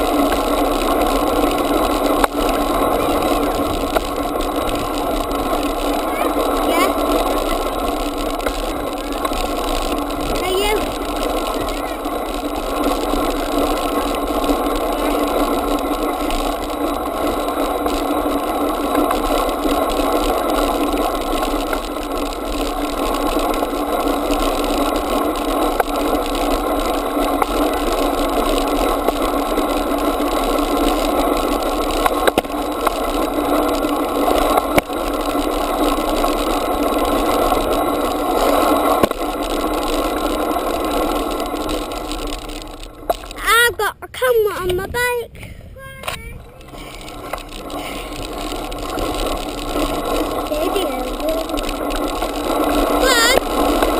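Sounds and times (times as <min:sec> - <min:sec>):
bicycle rolling on tarmac: 0:00.0 - 0:53.9.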